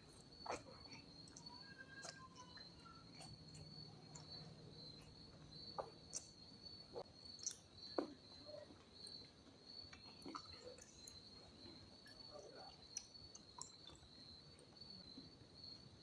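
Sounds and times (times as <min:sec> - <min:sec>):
mouth chewing noises: 0:00.0 - 0:14.8.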